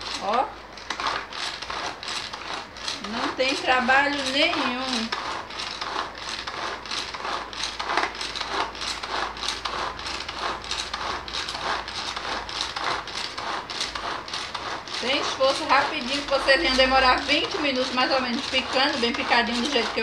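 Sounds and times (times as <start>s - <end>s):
pull-cord chopper whirring: 0.0s - 20.0s.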